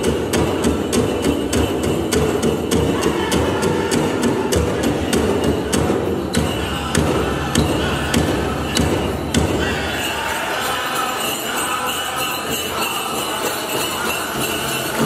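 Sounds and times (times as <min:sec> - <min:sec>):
ankle bells jingling: 0:00.0 - 0:15.0
drum beating steadily: 0:00.0 - 0:15.0
voices singing: 0:00.0 - 0:15.0.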